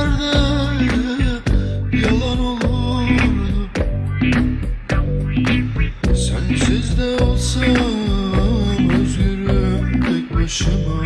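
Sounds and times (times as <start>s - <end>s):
bass and held notes: 0.0s - 11.0s
disco drum beat: 0.0s - 11.0s.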